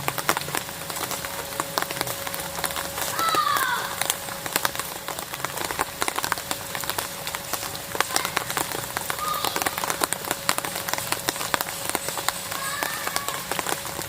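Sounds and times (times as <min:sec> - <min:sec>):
rain hissing: 0:00.0 - 0:14.0
raindrops tapping on a surface: 0:00.0 - 0:14.0.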